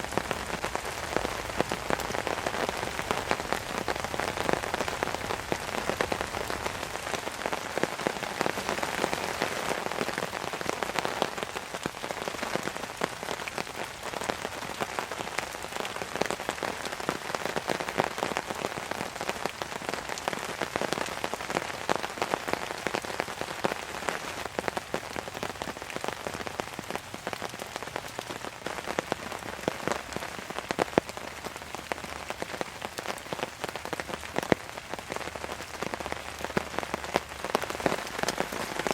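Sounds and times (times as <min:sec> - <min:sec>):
heavy rain on a tarp: 0:00.0 - 0:38.9.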